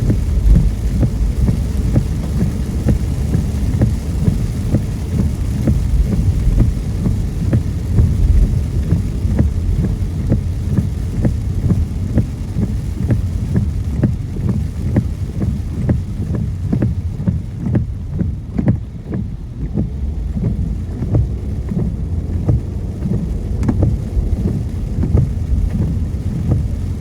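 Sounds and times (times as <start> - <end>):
car road rumble: 0.0 - 27.0
raindrops tapping on glass: 0.0 - 27.0.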